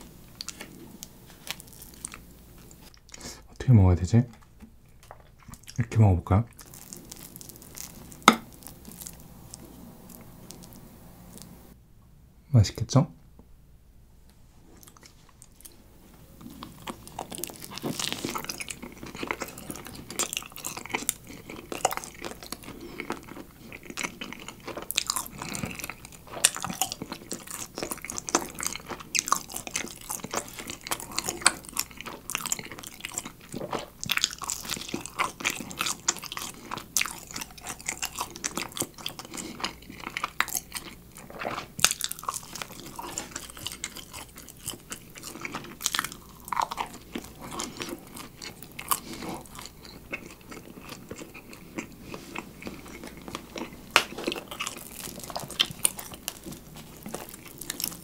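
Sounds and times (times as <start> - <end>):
man chewing food: 0.0 - 3.6, 4.3 - 5.8, 6.5 - 11.8, 14.6 - 58.0.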